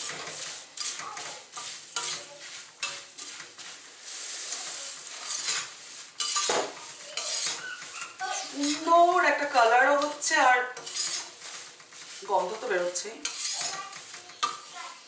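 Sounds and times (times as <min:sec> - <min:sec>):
puffed rice pouring into pan: 0:00.0 - 0:08.8, 0:09.4 - 0:15.0
metal spatula scraping pan: 0:00.0 - 0:15.0.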